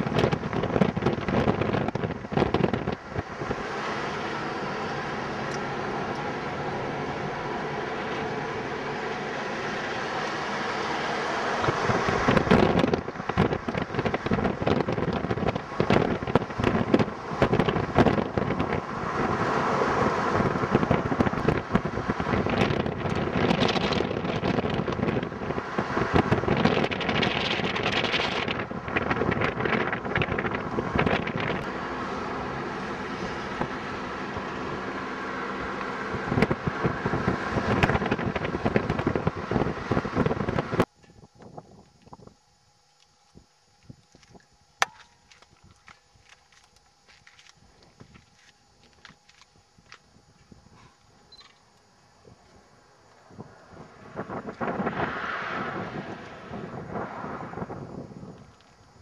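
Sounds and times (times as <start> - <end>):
wind buffeting microphone: 0.0 - 9.0, 9.7 - 31.8, 33.0 - 42.4, 52.1 - 59.0
car driving on road: 0.0 - 41.0, 45.2 - 59.0.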